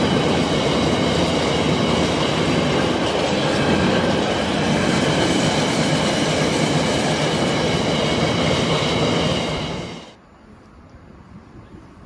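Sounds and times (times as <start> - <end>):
rumble of train wheels on rail: 0.0 - 10.2.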